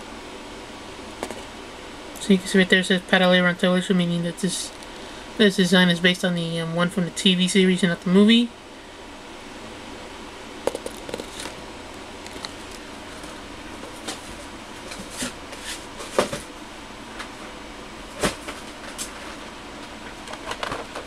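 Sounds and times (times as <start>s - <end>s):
steady hiss: 0.0s - 18.2s.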